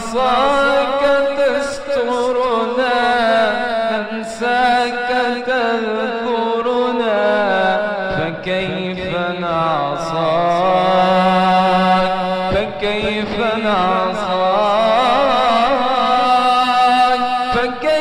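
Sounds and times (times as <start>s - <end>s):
person singing devotional chant: 0.0s - 18.0s.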